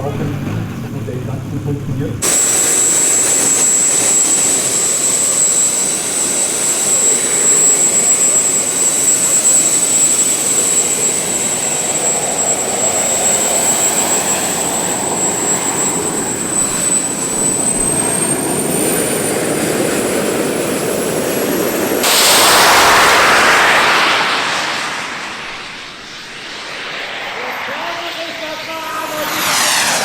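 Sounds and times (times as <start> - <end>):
jet passing close: 0.0 - 30.0
model jet turbine whining: 0.0 - 30.0.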